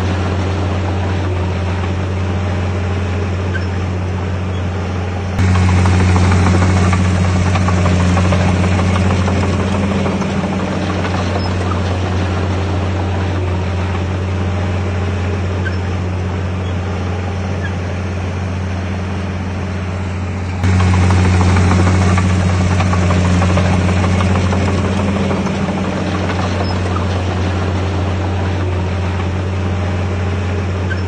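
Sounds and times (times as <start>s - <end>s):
heavy diesel engine humming: 0.0s - 31.0s.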